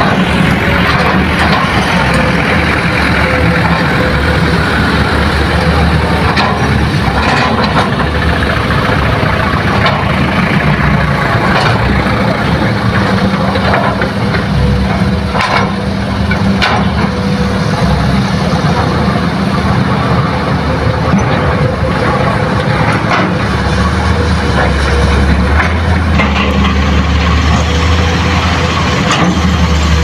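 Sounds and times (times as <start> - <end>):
diesel engines running: 0.0 - 30.0.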